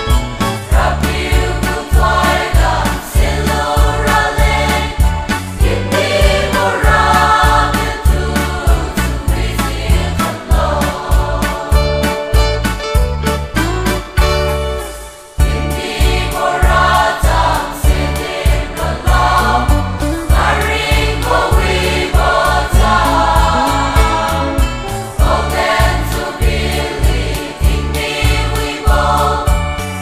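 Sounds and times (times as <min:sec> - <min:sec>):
low instrumental beat: 0:00.0 - 0:29.1
choir singing gospel: 0:00.4 - 0:12.8, 0:14.7 - 0:30.0.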